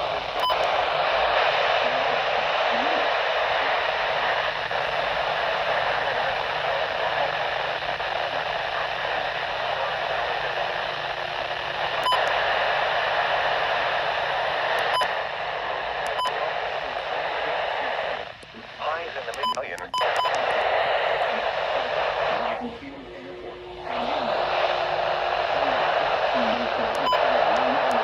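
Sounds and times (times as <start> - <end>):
radio static hiss: 0.0 - 28.0.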